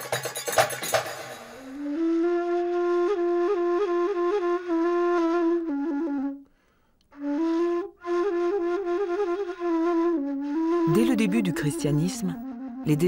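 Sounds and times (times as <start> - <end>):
solo flute melody: 1.6 - 13.0.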